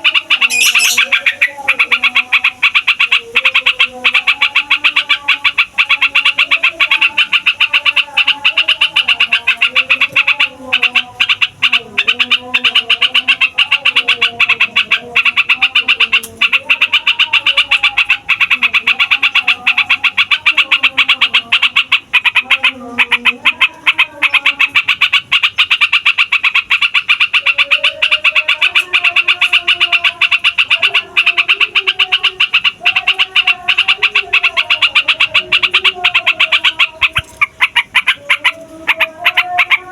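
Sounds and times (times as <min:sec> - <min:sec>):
bulbul song: 0:00.0 - 0:39.9
fast steady bird chatter: 0:00.0 - 0:39.9
lower wavering bird calls: 0:00.0 - 0:39.9.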